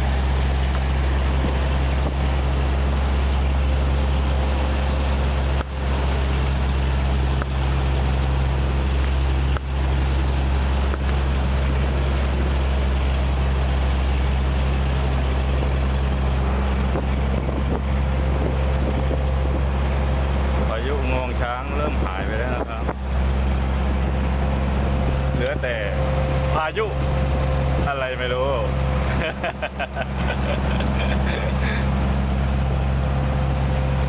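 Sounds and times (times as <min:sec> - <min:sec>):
boat engine running: 0:00.0 - 0:34.0
water rushing: 0:00.0 - 0:34.0
wind: 0:00.0 - 0:34.0.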